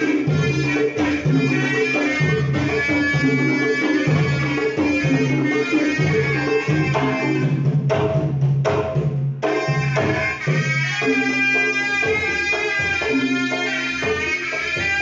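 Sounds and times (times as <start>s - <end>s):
drum accompaniment: 0.0s - 15.0s
shawm playing melody: 0.0s - 15.0s.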